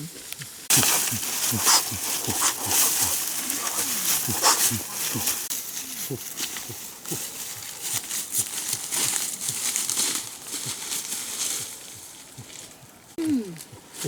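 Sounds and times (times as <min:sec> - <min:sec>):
crackling rustle of leaves: 0:00.0 - 0:14.0.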